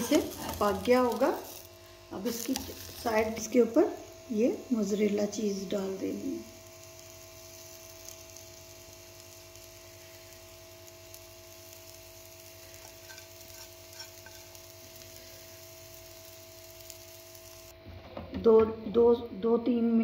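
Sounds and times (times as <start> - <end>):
crepe sizzling in a pan: 0.0 - 17.8.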